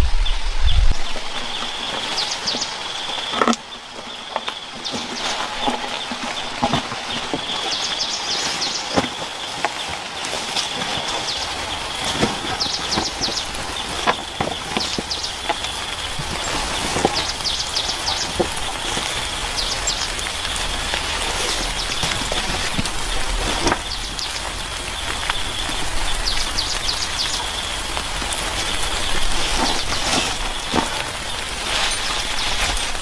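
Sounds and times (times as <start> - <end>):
insect-like drone: 0.0 - 33.0
rain pattering: 0.0 - 33.0
rapid chirping trills: 0.3 - 32.9.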